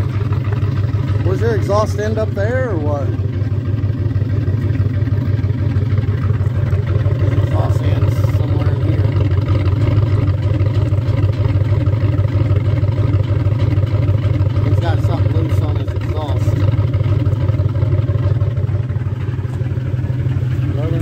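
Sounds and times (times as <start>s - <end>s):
engine idling with lope: 0.0s - 21.0s.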